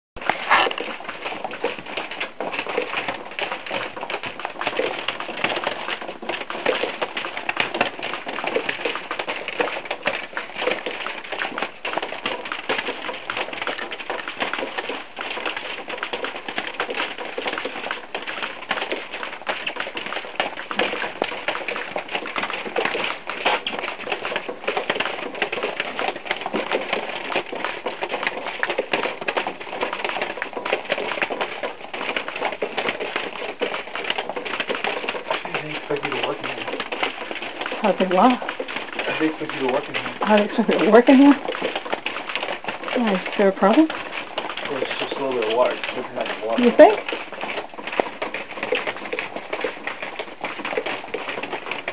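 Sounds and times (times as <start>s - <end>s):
water dripping and pattering: 0.2s - 51.9s.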